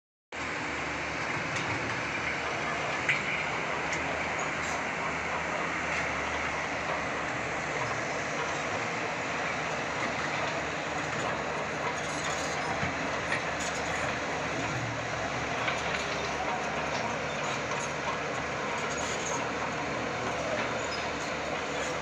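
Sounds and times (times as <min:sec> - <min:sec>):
diesel engines running: 0:00.4 - 0:22.0
steel tracks clattering: 0:01.1 - 0:22.0.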